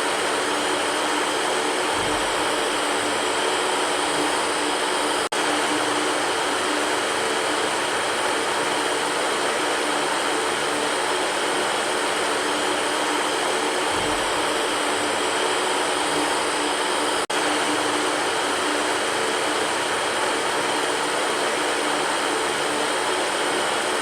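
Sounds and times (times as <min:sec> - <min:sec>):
electric fan air whooshing: 0:00.0 - 0:24.0
faint motor hum: 0:00.0 - 0:24.0.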